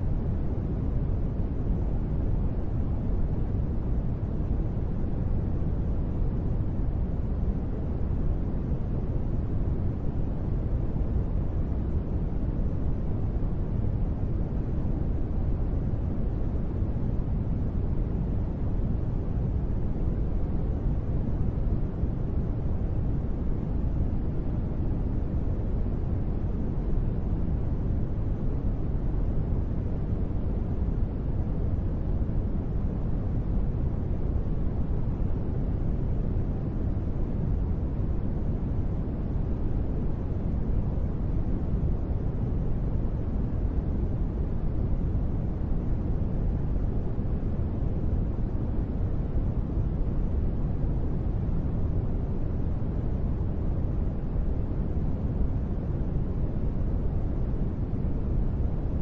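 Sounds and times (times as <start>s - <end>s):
deep steady rain-like noise: 0.0s - 59.0s.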